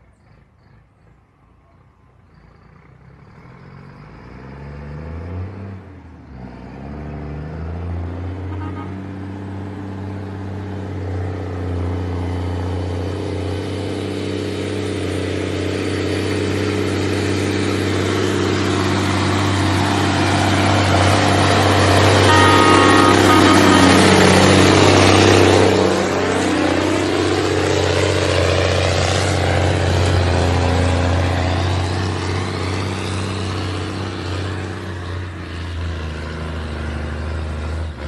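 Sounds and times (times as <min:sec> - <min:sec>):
diesel truck engine revving: 0:02.2 - 0:38.0.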